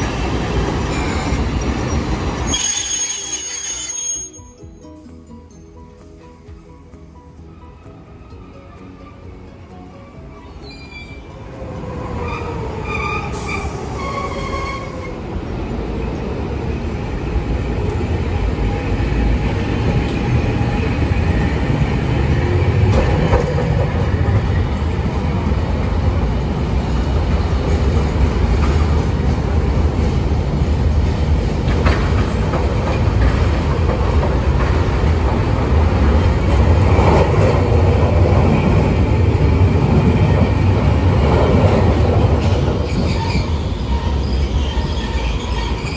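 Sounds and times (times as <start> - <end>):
tram rumbling on rails: 0.0 - 45.9.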